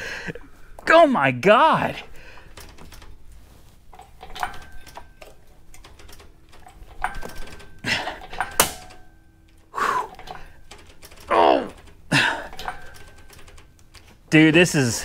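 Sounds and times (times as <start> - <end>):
metallic clinks and creaks: 1.8 - 14.4.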